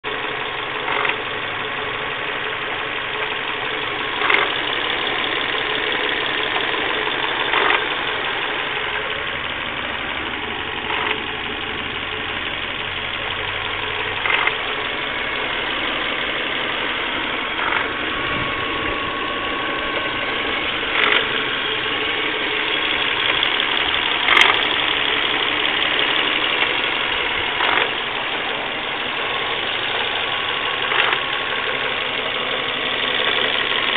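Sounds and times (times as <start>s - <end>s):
car engine running: 0.0s - 33.9s
recurring engine noise: 0.0s - 33.9s.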